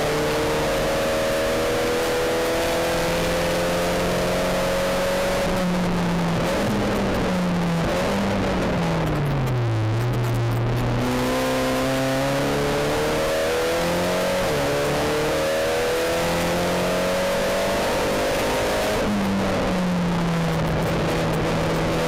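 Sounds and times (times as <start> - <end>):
race car engine: 0.0 - 22.0.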